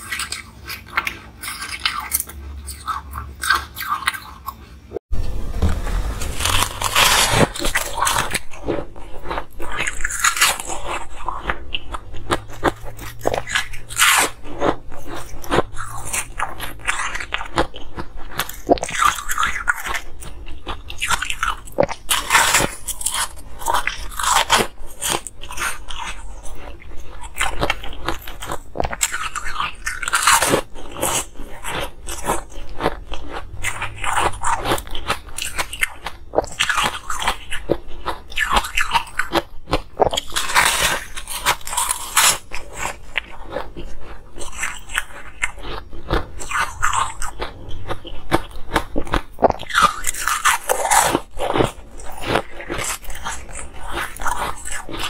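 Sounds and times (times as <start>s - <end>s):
ice crunching between teeth: 6.2s - 55.0s.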